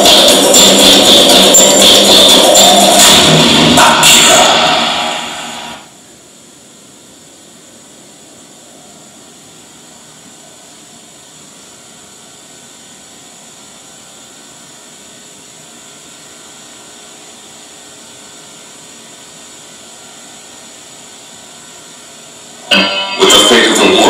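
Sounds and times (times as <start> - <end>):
tape hiss with faint hum: 0.0 - 24.0.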